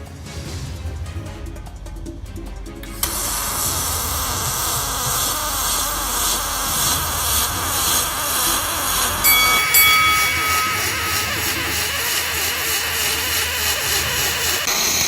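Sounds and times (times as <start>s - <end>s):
welding arc hissing: 2.9s - 15.0s.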